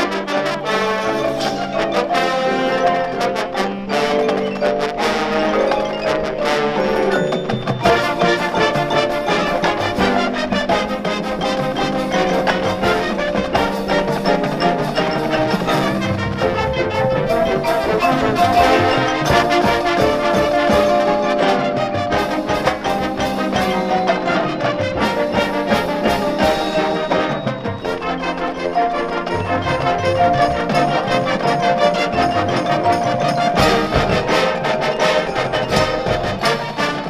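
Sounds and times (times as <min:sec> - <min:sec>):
brass playing: 0:00.0 - 0:37.0
mallet percussion: 0:00.0 - 0:37.0
percussion hits: 0:00.0 - 0:37.0.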